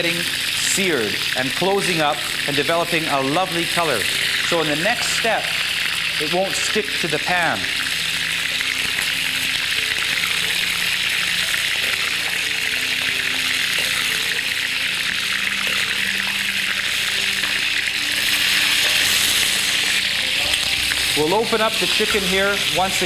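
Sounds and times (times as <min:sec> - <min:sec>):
hot oil sizzling in a wok: 0:00.0 - 0:23.0.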